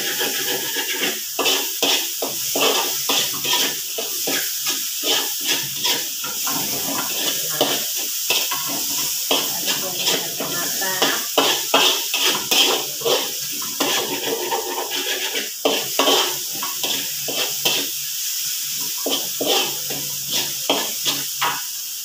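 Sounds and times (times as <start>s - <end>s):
metal spatula scraping wok: 0.0s - 21.6s
food sizzling: 0.0s - 22.0s.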